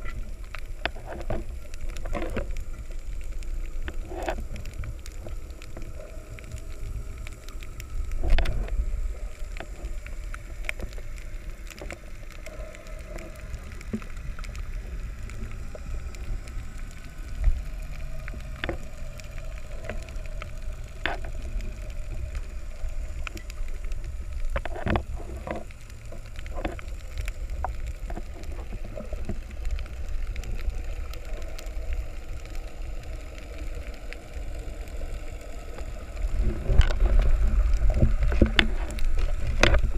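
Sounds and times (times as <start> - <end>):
faint steady hum: 0.0 - 39.9
sharp clicks underwater: 0.0 - 39.9
underwater rumble: 0.0 - 39.9.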